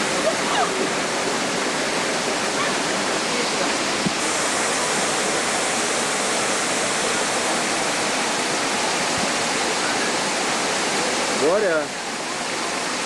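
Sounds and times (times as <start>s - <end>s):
waterfall pouring and splashing: 0.0s - 13.0s.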